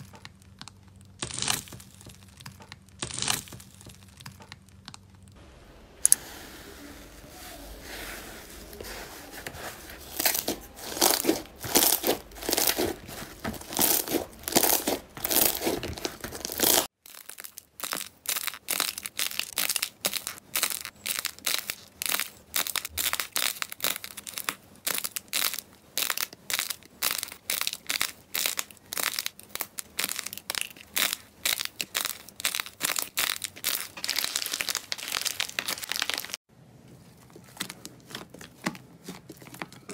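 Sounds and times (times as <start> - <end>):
slime crackling and crunching: 0.0 - 5.4, 7.6 - 36.5, 37.1 - 39.9.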